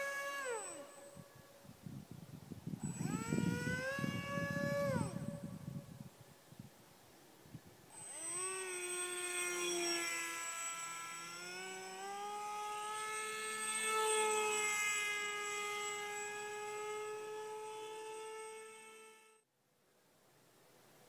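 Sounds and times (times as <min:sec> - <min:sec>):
electric model jet motor whine: 0:00.0 - 0:06.3, 0:07.8 - 0:19.5.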